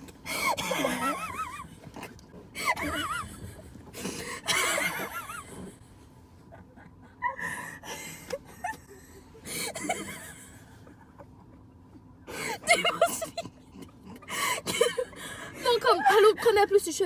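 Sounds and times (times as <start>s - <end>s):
women laughing: 0.3s - 1.8s, 2.6s - 3.7s, 4.4s - 5.8s, 6.4s - 16.6s.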